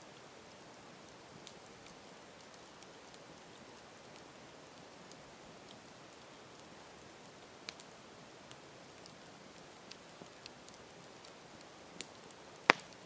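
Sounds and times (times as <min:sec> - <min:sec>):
campfire crackles and pops: 0:00.0 - 0:13.0
campfire hissing: 0:00.0 - 0:13.0.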